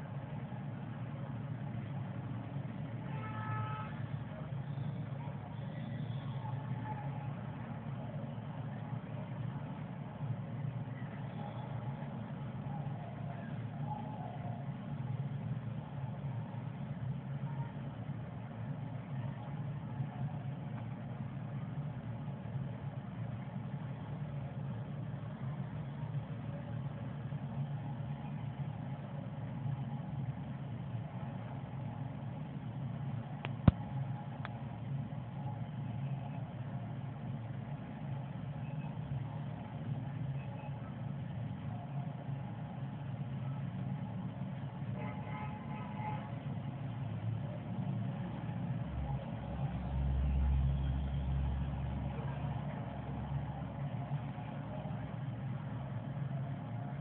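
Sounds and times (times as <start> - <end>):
low mechanical hum: 0.0 - 57.0
low steady rumble: 0.0 - 57.0.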